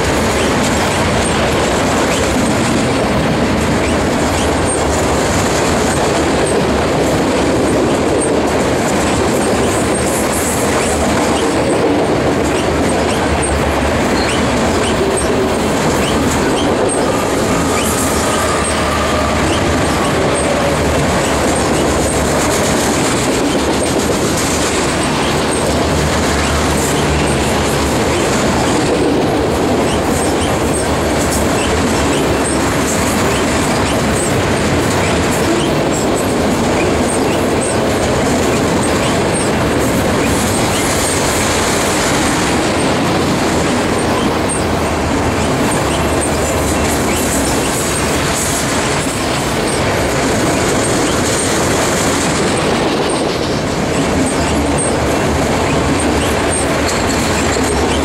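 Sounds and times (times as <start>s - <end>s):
freight train rumbling past: 0.0s - 58.0s
wheels clacking over rail joints: 0.0s - 58.0s.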